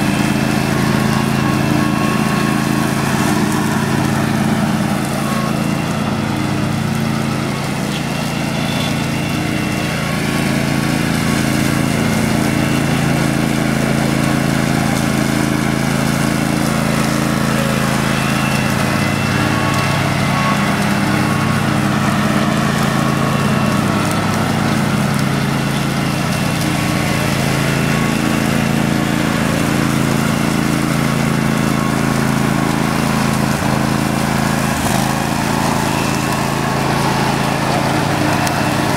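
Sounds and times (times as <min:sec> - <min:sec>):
garden tractor engine running: 0:00.0 - 0:38.9
mower deck cutting grass: 0:00.0 - 0:38.9.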